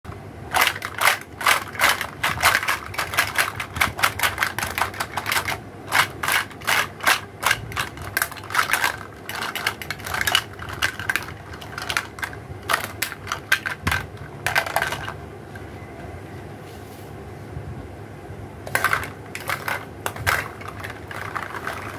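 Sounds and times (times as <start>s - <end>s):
plastic toy pieces clattering: 0.5s - 15.2s, 18.7s - 21.9s.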